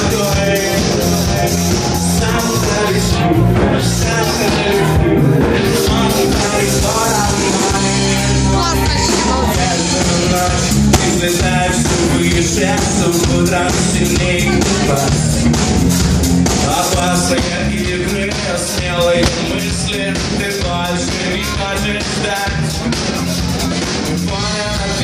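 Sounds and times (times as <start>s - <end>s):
man singing: 0.0s - 15.5s, 16.5s - 23.1s, 24.1s - 25.0s
live rock band playing: 0.0s - 25.0s.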